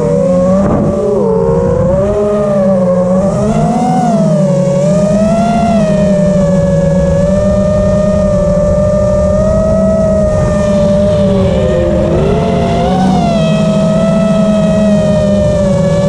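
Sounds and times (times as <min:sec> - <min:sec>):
drone motors whining: 0:00.0 - 0:16.0
low wind rumble: 0:00.0 - 0:16.0.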